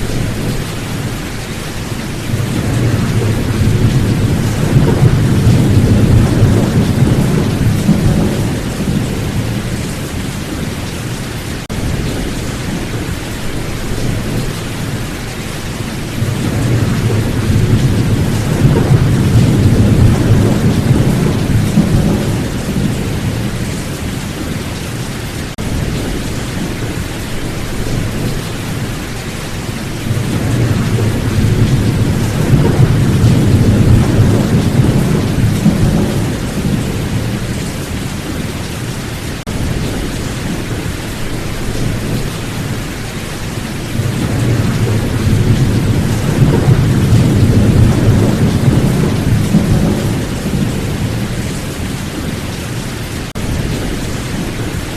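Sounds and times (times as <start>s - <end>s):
steady rain: 0.0s - 54.9s
thunder rumbling: 0.0s - 54.9s.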